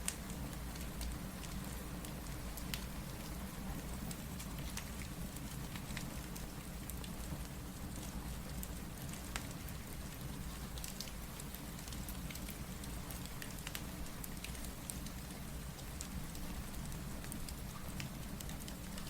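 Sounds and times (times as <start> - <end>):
wood fire crackling: 0.0 - 7.2, 7.9 - 19.0
steady rain: 0.0 - 19.0.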